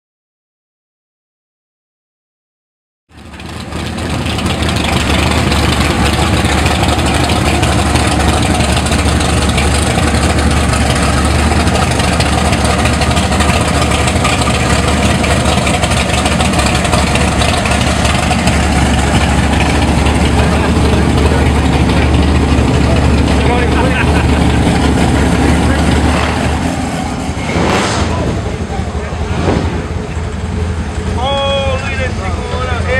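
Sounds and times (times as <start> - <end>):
car engine idling: 3.1 - 32.9.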